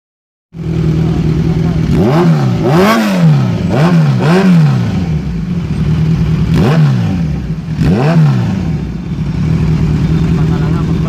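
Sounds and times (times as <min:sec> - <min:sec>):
motorcycle engine idling: 0:00.6 - 0:11.0
motorcycle engine revving: 0:00.6 - 0:11.0.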